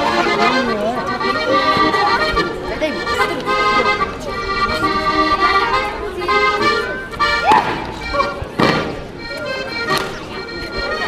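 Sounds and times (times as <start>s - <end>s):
accordion folk dance tune: 0.0s - 11.0s.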